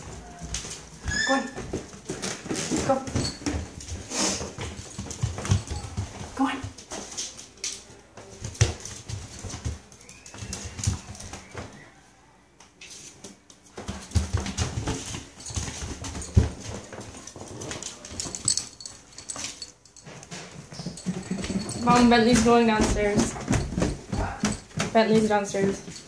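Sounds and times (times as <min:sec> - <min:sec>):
ferret feet clicking on hard floor: 0:00.0 - 0:11.8, 0:13.2 - 0:26.0.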